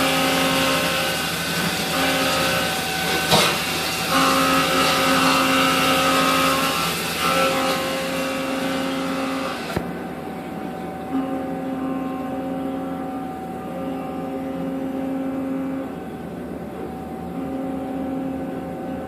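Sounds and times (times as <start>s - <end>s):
machine whine: 0.0s - 19.0s.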